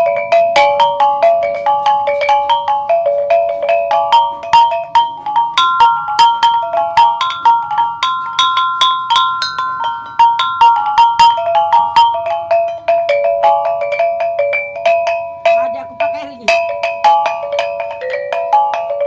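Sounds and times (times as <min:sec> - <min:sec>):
tuned gongs running melody: 0:00.0 - 0:19.0.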